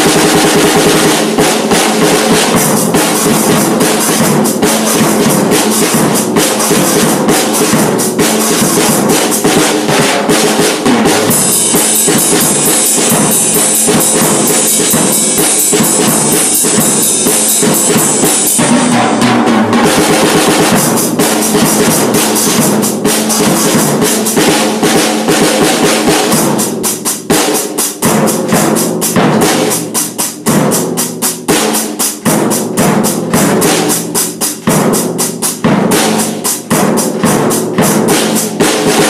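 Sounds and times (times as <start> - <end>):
cymbals: 0.0 - 39.0
drum solo: 0.0 - 39.0.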